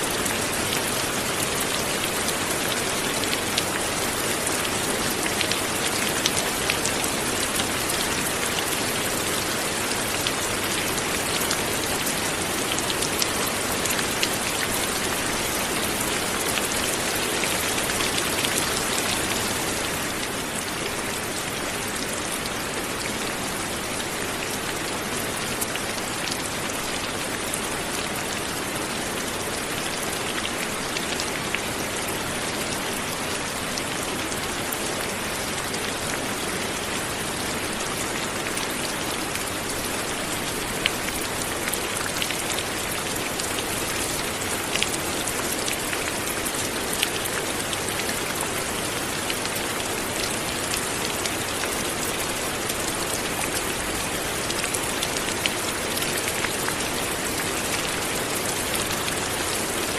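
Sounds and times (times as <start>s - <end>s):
light rain pattering: 0.0s - 59.9s.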